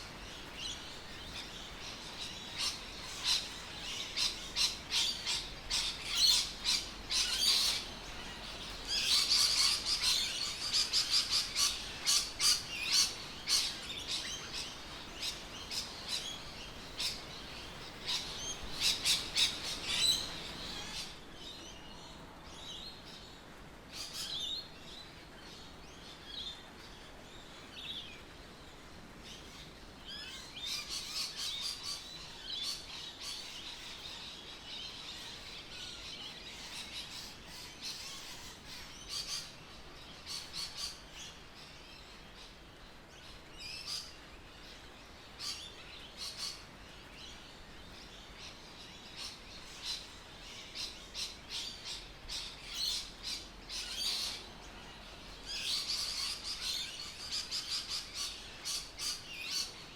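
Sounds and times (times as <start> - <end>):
birds chirping: 0.0 - 23.2, 29.4 - 59.9.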